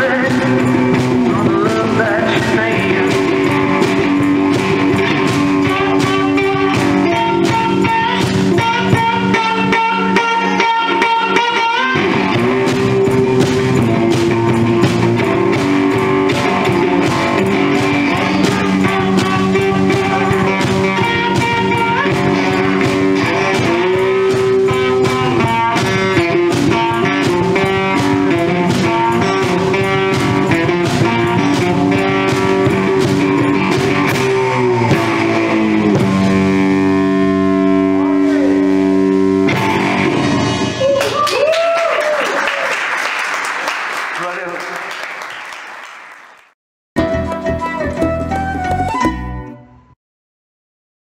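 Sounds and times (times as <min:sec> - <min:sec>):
blues guitar chords and riffs: 0:00.0 - 0:41.2, 0:47.0 - 0:49.9
bass drum beat: 0:00.0 - 0:41.7.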